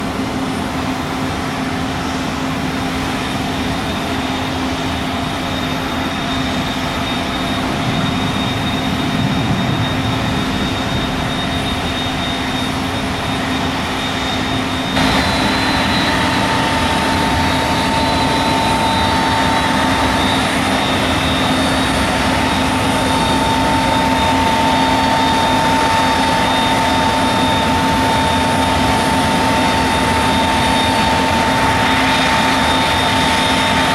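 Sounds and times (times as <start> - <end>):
higher steady whine: 0.0 - 33.9
jet engines running: 0.0 - 33.9.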